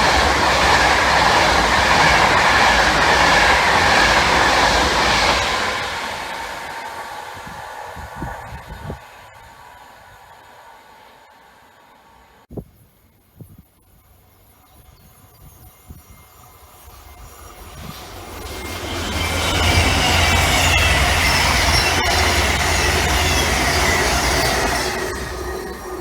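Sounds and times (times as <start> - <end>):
train passing: 0.0 - 12.5, 14.0 - 26.0
wheels rumbling on rail: 0.0 - 12.8, 13.8 - 26.0.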